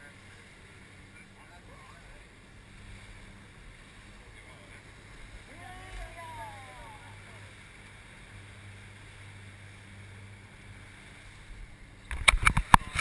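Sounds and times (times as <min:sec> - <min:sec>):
boat engine hum: 0:00.0 - 0:13.0
wind: 0:00.0 - 0:13.0.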